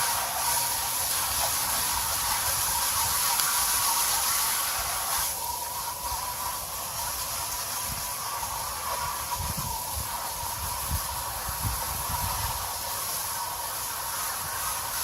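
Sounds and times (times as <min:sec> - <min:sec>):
garden hose spraying water: 0:00.0 - 0:15.0.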